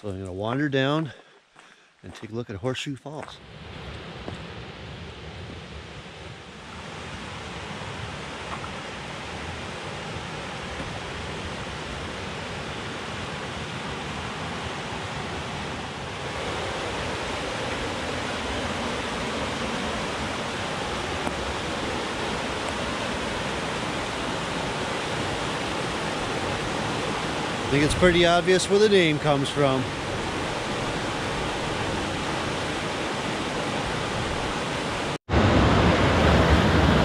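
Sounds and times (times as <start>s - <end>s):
white water rushing over rocks: 6.6s - 37.0s.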